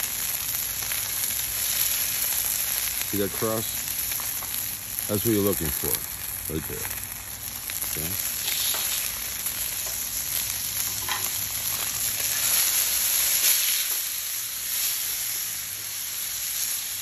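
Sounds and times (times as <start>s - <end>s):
steak sizzling in a pan: 0.0s - 17.0s.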